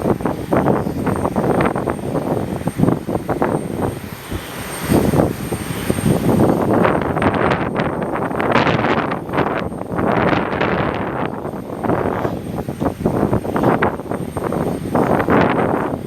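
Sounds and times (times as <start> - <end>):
aircraft engines running: 0.0 - 16.0
wind buffeting on microphone: 0.0 - 16.0.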